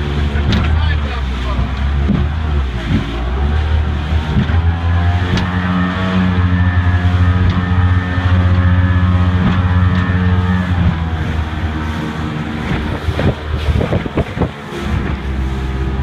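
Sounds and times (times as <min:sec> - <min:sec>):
motorboat engine running: 0:00.0 - 0:16.0
whitewater rushing: 0:00.0 - 0:16.0.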